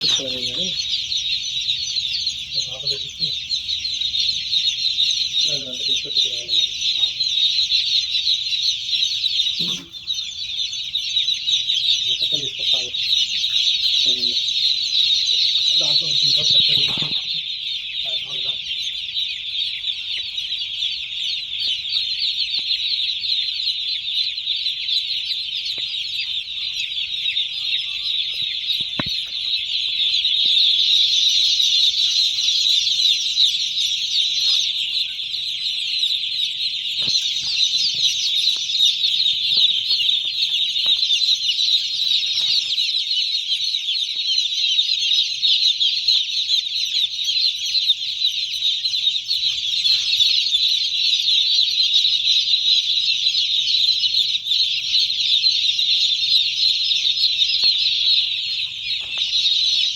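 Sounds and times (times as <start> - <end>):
chickens calling: 0.0 - 59.9.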